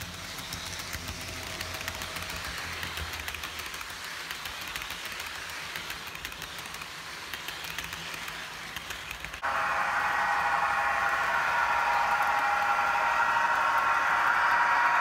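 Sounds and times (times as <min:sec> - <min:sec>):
steady whir: 0:00.0 - 0:15.0
train wheels clicking over rails: 0:00.0 - 0:15.0.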